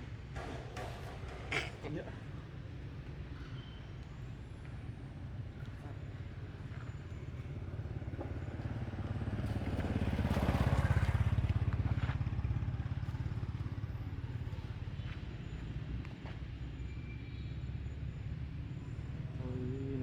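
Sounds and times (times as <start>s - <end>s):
engine low rumble: 4.0s - 20.0s.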